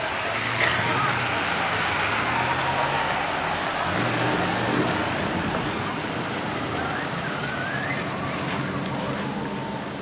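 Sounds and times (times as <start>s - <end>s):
cars driving past slowly: 0.0s - 10.0s
crowd noise: 0.0s - 10.0s
street noise: 0.0s - 10.0s.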